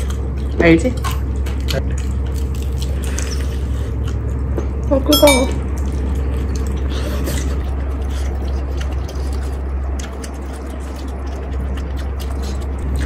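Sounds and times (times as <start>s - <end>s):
chewing crispy fried chicken: 0.0s - 13.0s
steady low hum: 0.0s - 13.0s.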